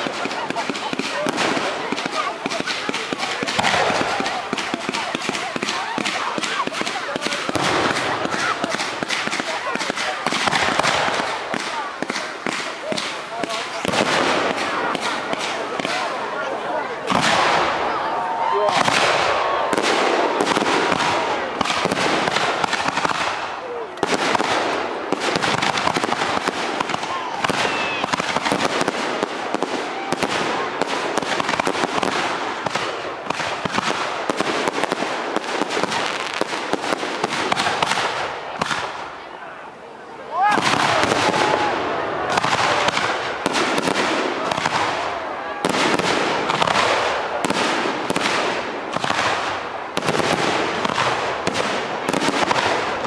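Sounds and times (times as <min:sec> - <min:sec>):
fireworks bursting and crackling: 0:00.0 - 0:53.0.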